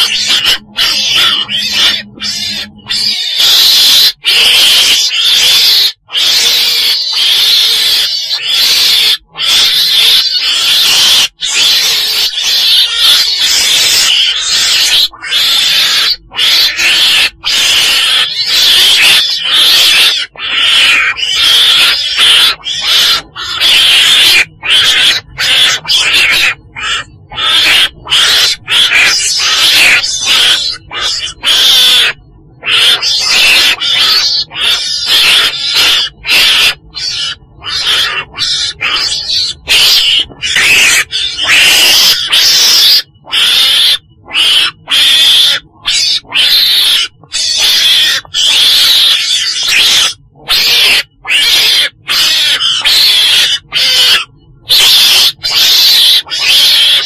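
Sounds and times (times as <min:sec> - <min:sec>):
weasel hissing cries: 0:00.0 - 0:57.0.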